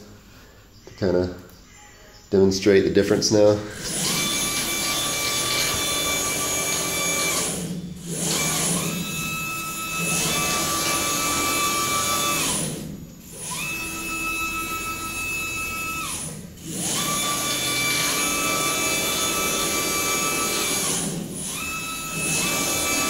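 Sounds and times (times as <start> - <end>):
stepper motors whining: 3.7 - 23.0.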